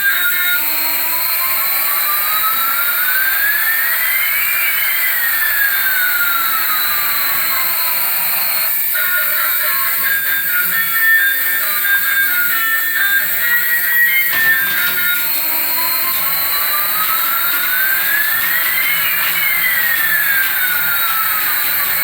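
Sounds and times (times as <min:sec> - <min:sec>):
jet engine whine: 0:00.0 - 0:22.0
music: 0:00.0 - 0:22.0.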